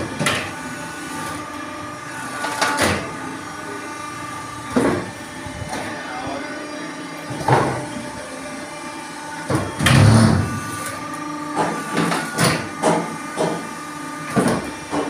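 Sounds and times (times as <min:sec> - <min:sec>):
brick making machine humming: 0:00.0 - 0:15.0.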